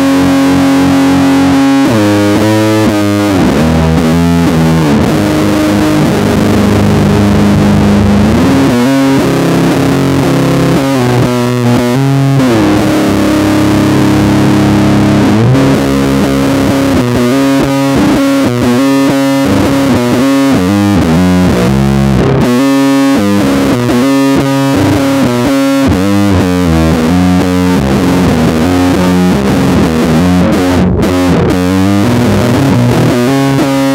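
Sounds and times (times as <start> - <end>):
distorted electric bass riff: 0.0 - 33.9.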